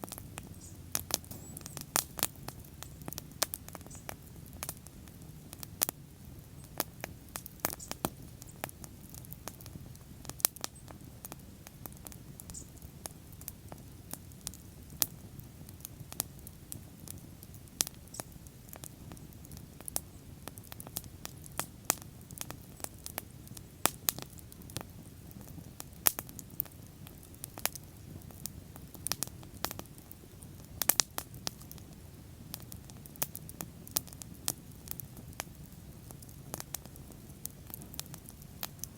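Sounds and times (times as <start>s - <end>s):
bonfire crackling and popping: 0.0s - 38.9s
flames rumbling: 0.0s - 38.9s.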